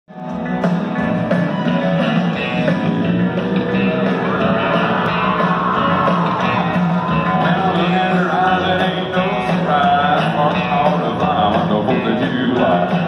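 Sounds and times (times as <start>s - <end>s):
electric guitars: 0.1s - 13.0s
live country band: 0.1s - 13.0s.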